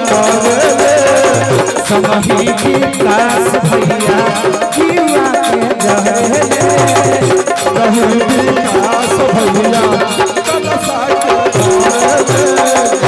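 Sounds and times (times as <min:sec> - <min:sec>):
hand drum rhythm: 0:00.0 - 0:13.0.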